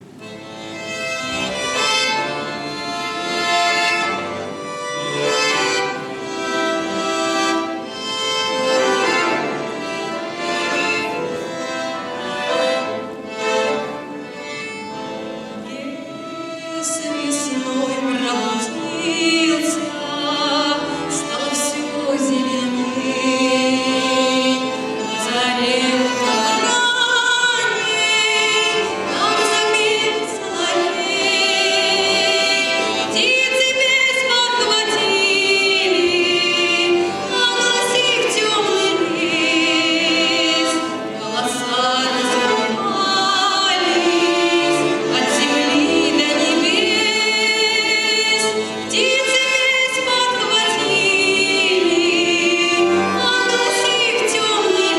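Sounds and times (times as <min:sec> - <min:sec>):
instrumental accompaniment: 0:00.0 - 0:54.9.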